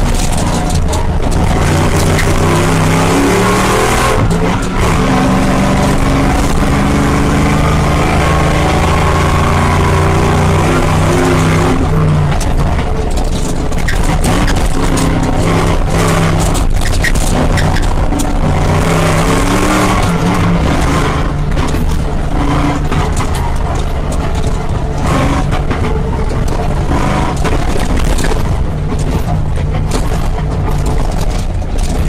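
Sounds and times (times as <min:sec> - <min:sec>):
knocks and rattles: 0:00.0 - 0:32.0
vehicle engine under load: 0:00.0 - 0:32.0.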